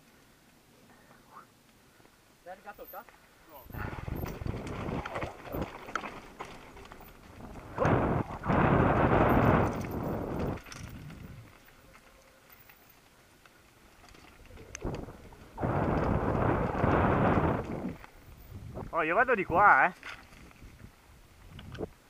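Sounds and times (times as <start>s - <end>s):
tyres crunching over stones: 2.8s - 18.9s, 19.8s - 22.0s.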